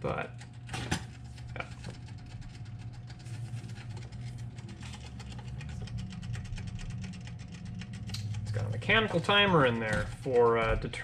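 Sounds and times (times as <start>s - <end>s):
toaster timer ticking rapidly: 0.0s - 11.0s.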